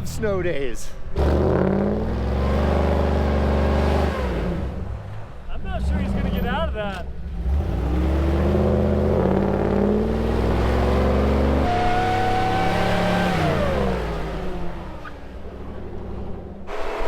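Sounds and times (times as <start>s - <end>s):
vehicle engine revving: 1.1s - 17.0s.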